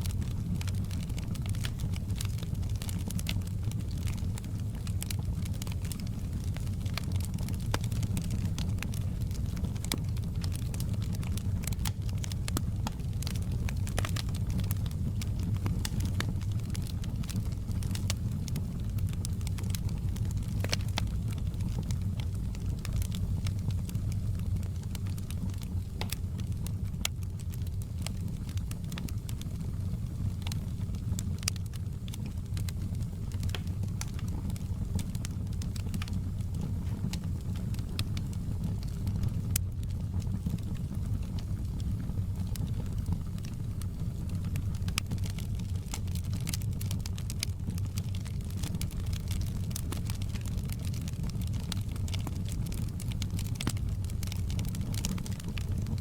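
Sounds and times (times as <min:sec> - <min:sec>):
fire crackling and popping: 0:00.0 - 0:56.0
low rumble of flame: 0:00.0 - 0:56.0.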